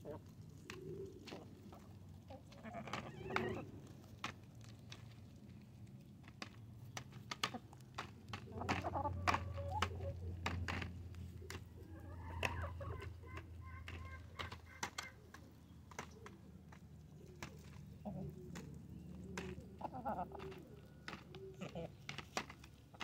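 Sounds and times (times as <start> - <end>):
hens clucking: 0.0 - 5.6, 6.2 - 23.0.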